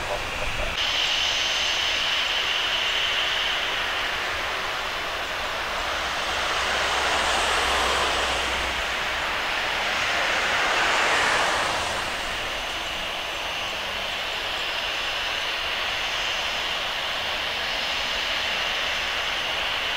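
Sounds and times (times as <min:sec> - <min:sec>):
jet engine rush: 0:00.0 - 0:19.9
thin high whine: 0:00.0 - 0:19.9.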